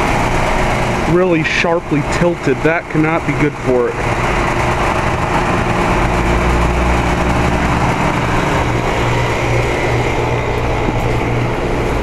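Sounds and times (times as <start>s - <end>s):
air conditioner fan rushing: 0.0s - 12.0s.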